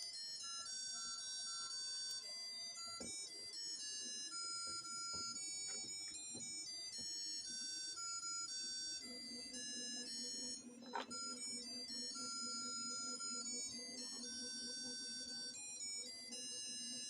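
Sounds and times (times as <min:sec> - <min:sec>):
tinny electronic beeping melody: 0:02.8 - 0:17.0.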